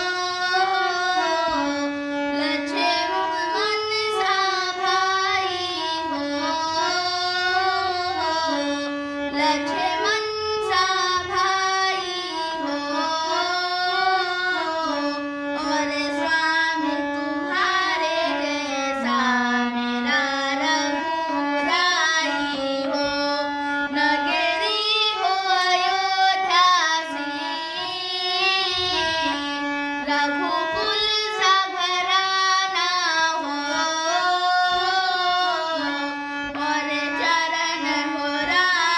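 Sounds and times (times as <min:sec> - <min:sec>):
high voice singing devotional song: 0:00.0 - 0:38.9.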